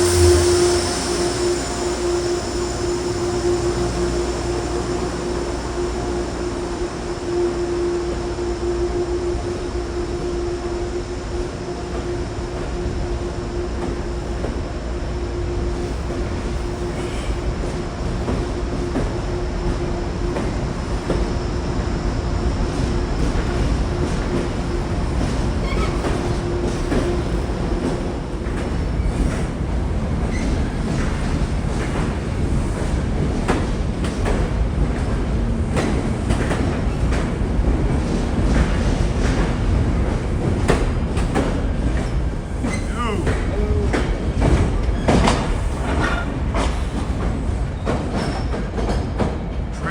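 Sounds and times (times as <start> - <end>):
train mechanical hum: 0.0 - 49.9.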